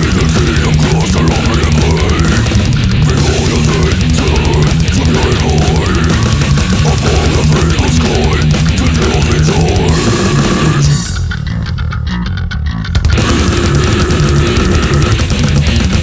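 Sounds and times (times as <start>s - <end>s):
death metal music: 0.0s - 16.0s
sliding guitar lines: 0.0s - 16.0s.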